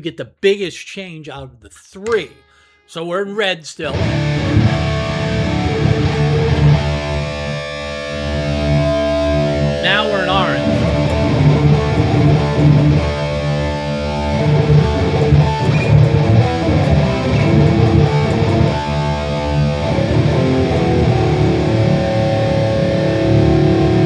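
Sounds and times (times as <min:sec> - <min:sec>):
electric guitar: 0:03.9 - 0:24.0.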